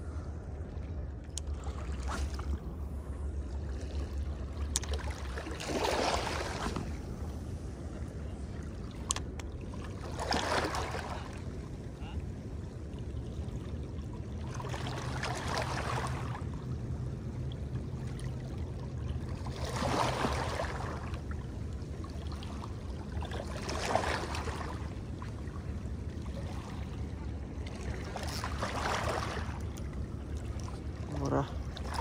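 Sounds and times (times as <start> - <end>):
steady low hum: 0.0 - 32.0
water washing in surges: 3.8 - 32.0.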